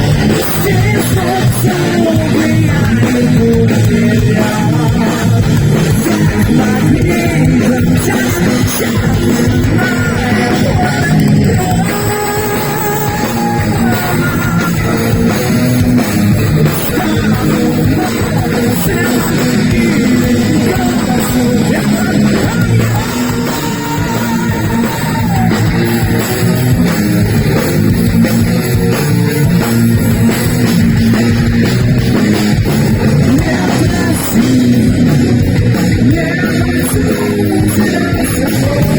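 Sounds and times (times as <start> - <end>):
heavy metal band playing: 0.0 - 38.9
lead guitar long notes: 0.0 - 38.9.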